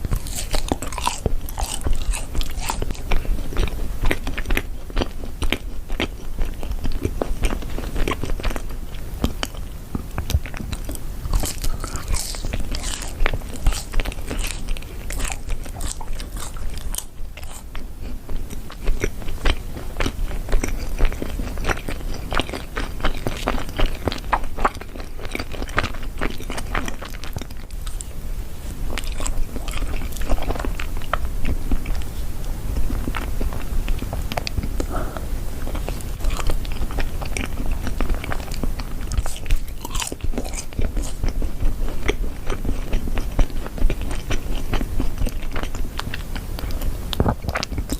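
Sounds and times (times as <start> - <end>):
crunchy cookie chewing: 0.0 - 47.9.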